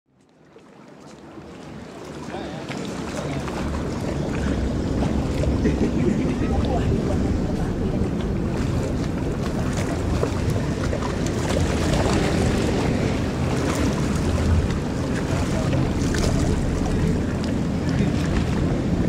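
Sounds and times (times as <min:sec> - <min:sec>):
open sea water washing: 0:00.1 - 0:19.0
small waves crackling: 0:00.1 - 0:19.0
wind rumbling on microphone: 0:01.3 - 0:19.0.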